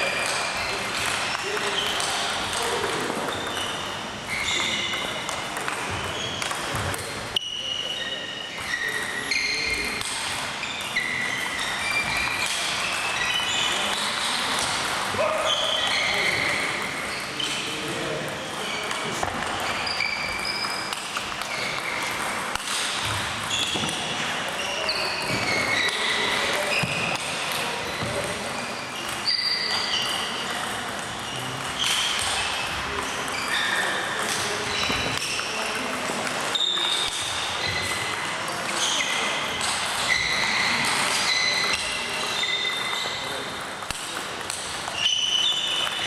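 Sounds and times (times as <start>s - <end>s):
table tennis balls pinging: 0.0s - 46.0s.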